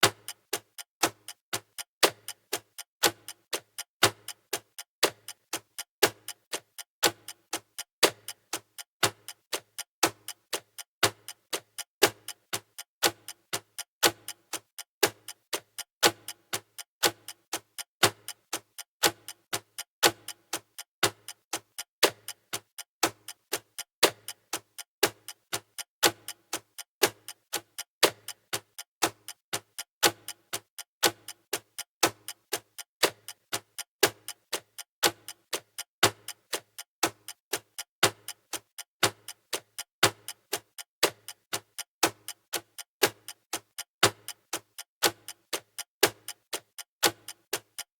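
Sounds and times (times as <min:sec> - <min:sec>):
clock ticking: 0:00.0 - 0:47.9.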